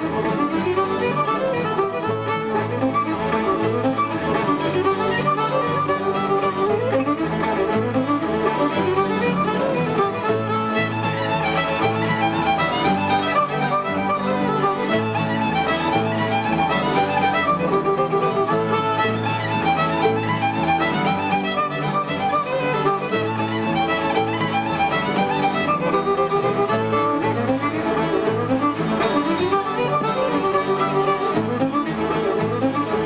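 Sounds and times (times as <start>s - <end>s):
fiddle playing lively tune: 0.0s - 33.0s.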